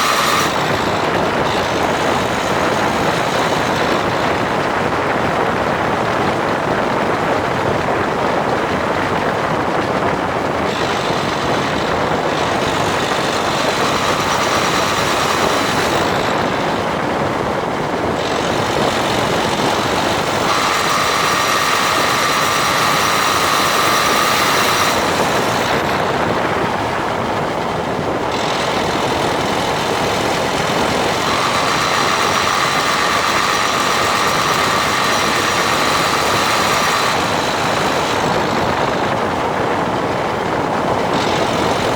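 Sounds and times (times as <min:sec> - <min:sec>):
car engine and road noise: 0:00.0 - 0:41.9
high grinding tone: 0:00.0 - 0:41.9.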